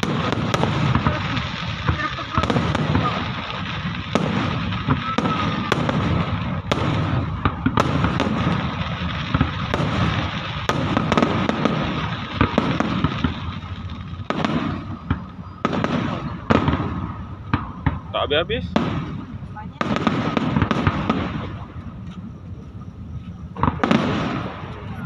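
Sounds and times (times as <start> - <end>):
fireworks crackling: 0.0 - 25.0
sharp firework bangs: 0.0 - 25.0.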